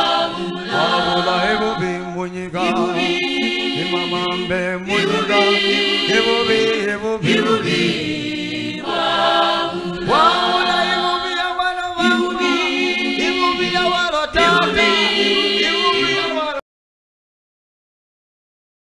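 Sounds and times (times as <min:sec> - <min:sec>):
unaccompanied choir singing: 0:00.0 - 0:16.6.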